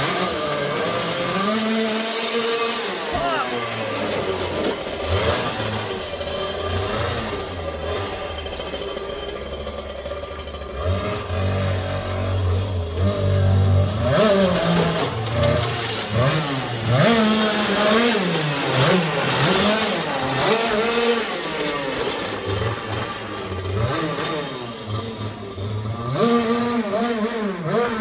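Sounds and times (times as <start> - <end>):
go-kart engine revving: 0.0 - 28.0.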